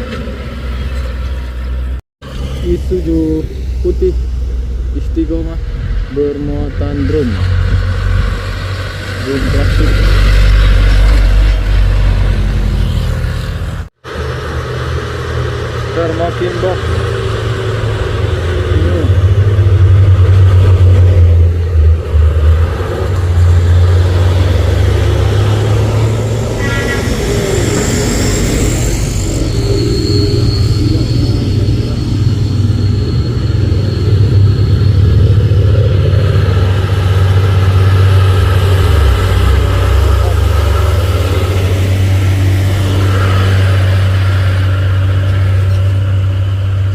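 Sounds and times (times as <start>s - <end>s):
truck diesel engine pulling uphill: 0.0s - 46.9s
vehicle engine running: 0.0s - 46.9s.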